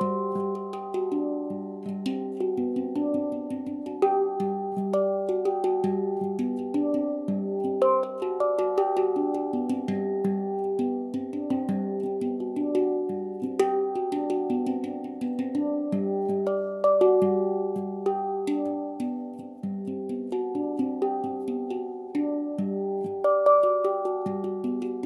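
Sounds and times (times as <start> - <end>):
instrumental background music: 0.0 - 25.0.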